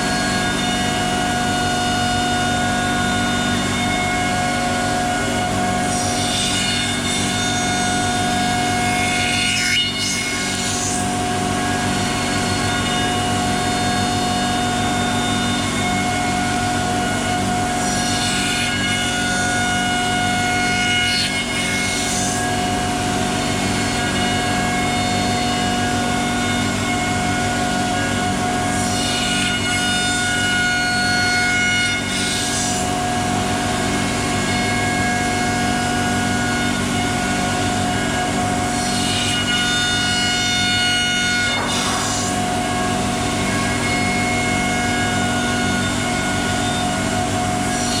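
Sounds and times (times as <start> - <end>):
cnc router machine whine: 0.0 - 48.0.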